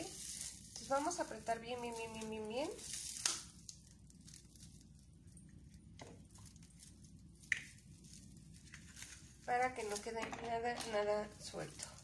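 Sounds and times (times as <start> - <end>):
dry stems crackling: 0.0 - 12.0.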